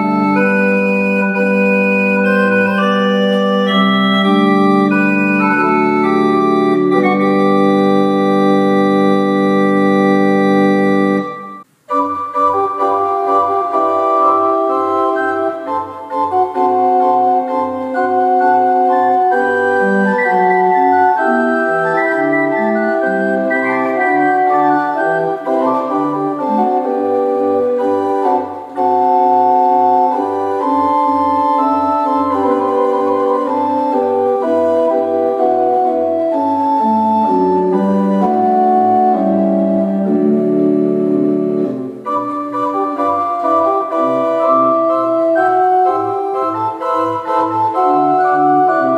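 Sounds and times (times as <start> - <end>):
pipe organ playing: 0.0 - 48.9.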